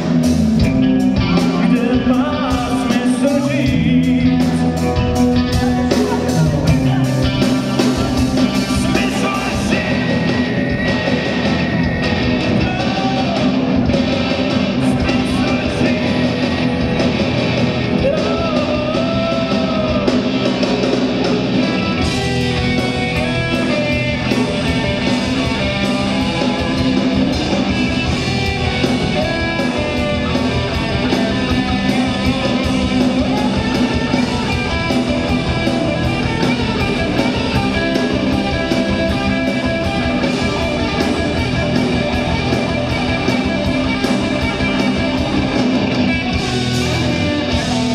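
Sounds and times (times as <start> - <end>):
bass guitar: 0.0 - 47.9
distorted electric guitars: 0.0 - 47.9
drums and cymbal hits: 0.0 - 47.9.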